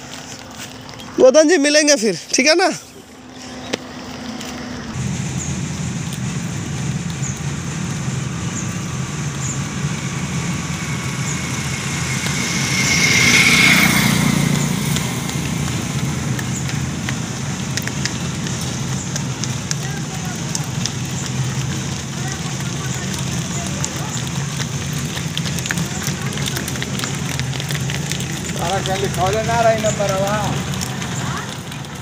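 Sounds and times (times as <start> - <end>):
vehicle engine running: 0.0 - 32.0
vehicle passing: 0.0 - 32.0.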